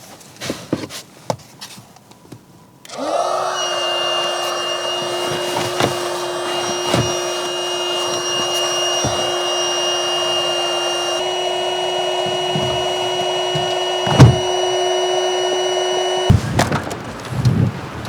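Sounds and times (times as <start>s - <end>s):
electric fan motor whirring: 2.8s - 18.0s.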